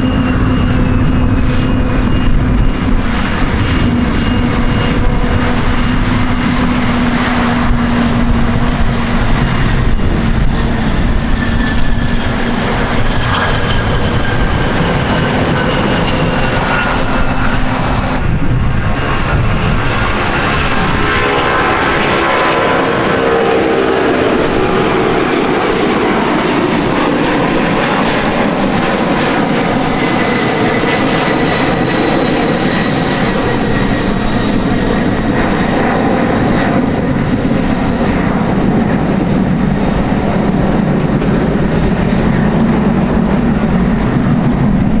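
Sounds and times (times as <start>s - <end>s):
airplane engines passing close: 0.0s - 45.0s
wind rumble on microphone: 0.0s - 45.0s.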